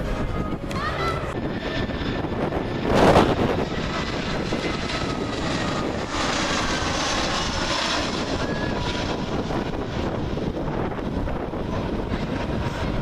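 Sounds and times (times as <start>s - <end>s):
faint engine whine: 0.0s - 13.0s
jet engines rushing: 0.0s - 13.0s.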